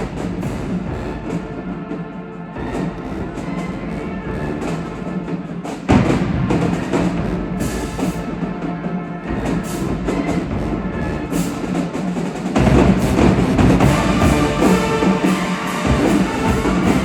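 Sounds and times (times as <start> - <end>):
music with heavy drums: 0.0 - 2.0, 2.6 - 17.0.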